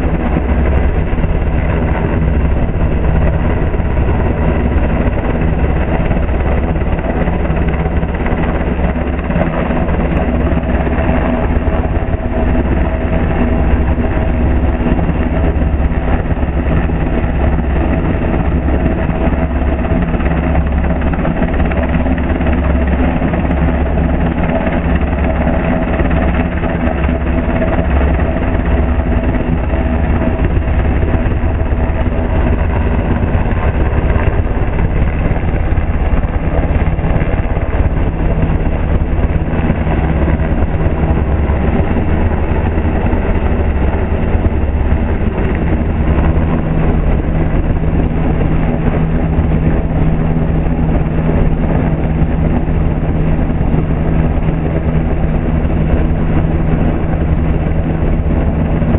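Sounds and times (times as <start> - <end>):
helicopter rotor and turbine noise: 0.0 - 58.9.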